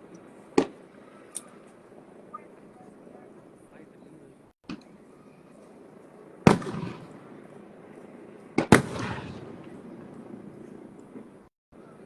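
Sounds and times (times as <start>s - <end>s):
fireworks bangs: 0.0s - 3.4s, 4.6s - 11.5s.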